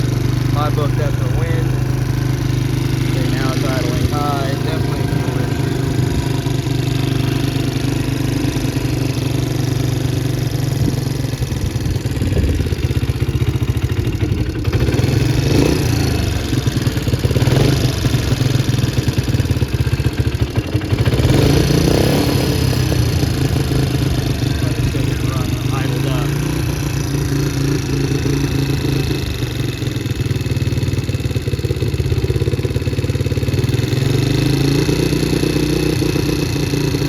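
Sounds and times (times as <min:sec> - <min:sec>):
quad engine idling high: 0:00.0 - 0:37.0.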